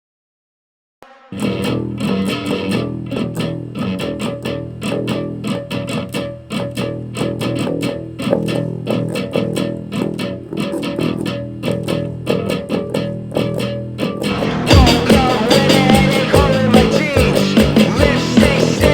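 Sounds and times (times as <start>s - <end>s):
rock song instrumental: 1.0s - 18.9s.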